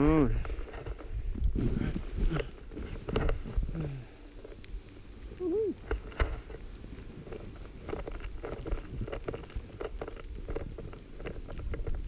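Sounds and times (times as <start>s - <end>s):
snowboard sliding through powder: 0.0s - 12.0s
wind buffeting microphone: 0.0s - 12.0s
small knocks and scrapes: 0.4s - 4.9s, 5.8s - 12.0s.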